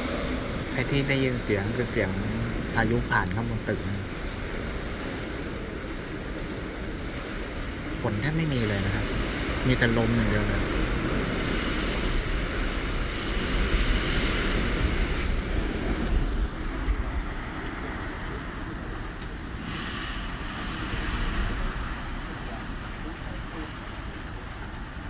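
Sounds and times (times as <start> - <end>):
strong wind gusting past building: 0.0 - 25.0.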